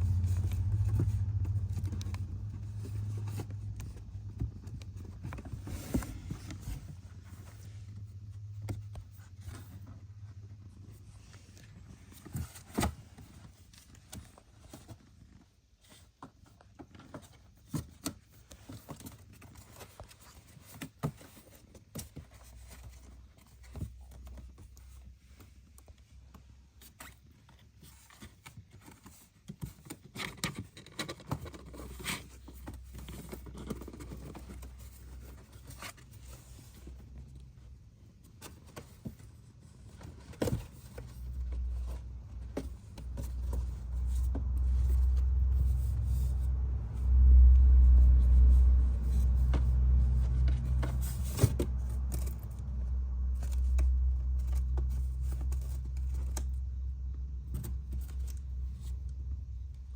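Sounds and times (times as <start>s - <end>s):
kittens clicks and scratches: 0.0s - 46.8s, 47.8s - 59.9s
low steady rumble: 0.0s - 59.9s.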